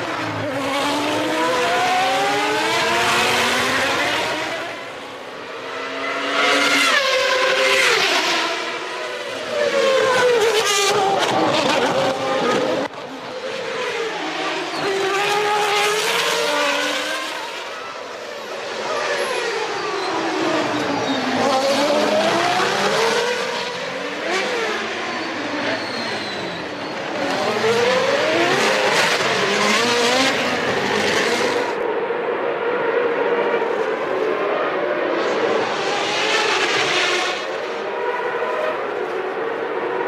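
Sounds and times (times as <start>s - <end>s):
racing car engines at high revs: 0.0s - 40.0s.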